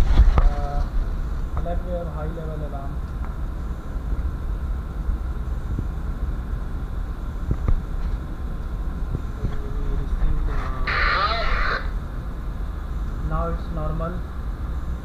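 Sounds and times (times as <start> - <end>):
engine room machinery rumble: 0.0 - 15.0.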